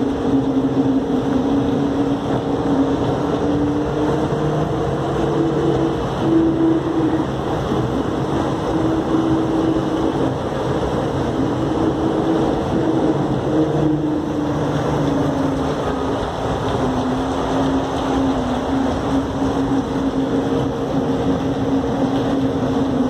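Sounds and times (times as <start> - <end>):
tyres rumbling on concrete track: 0.0 - 23.0.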